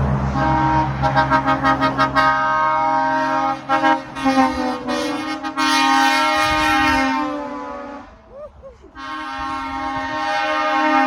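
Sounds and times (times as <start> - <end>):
truck air horns: 0.2 - 8.3, 8.9 - 11.0.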